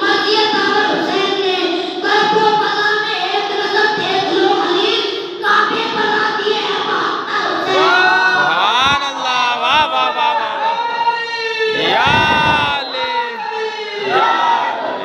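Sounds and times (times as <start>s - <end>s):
boy singing into a microphone: 0.0s - 9.6s, 10.7s - 15.0s.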